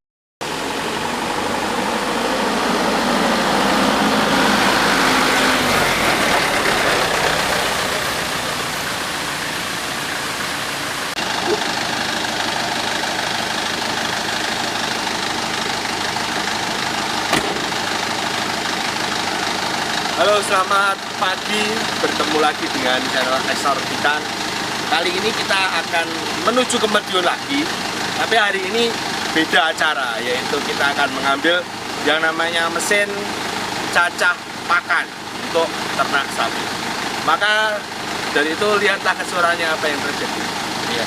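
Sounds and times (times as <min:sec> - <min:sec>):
truck diesel engine running: 0:00.4 - 0:41.0.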